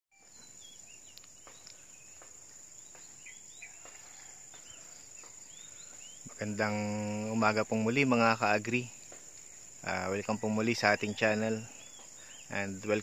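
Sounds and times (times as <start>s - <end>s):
small birds chirping: 0.1s - 13.0s
insects droning: 0.2s - 13.0s.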